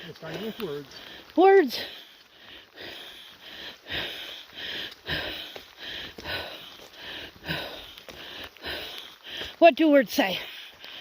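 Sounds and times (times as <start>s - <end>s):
footsteps on wet trail: 0.0s - 11.0s.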